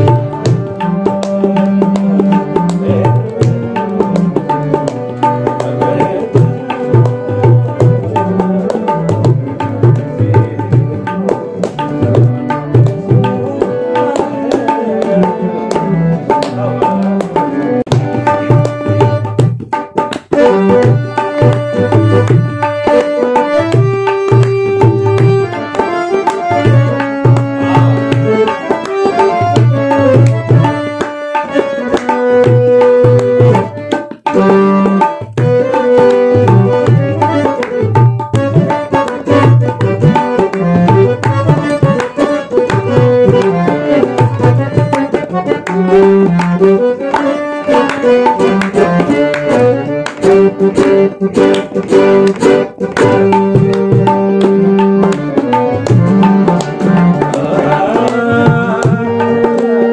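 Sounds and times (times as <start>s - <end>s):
held melodic drone: 0.0s - 59.9s
tabla rhythm: 0.0s - 59.9s.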